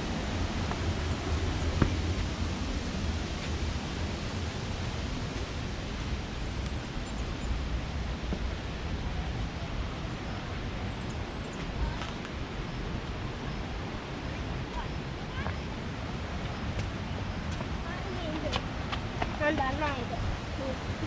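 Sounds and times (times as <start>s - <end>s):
rushing falling water: 0.0s - 21.0s.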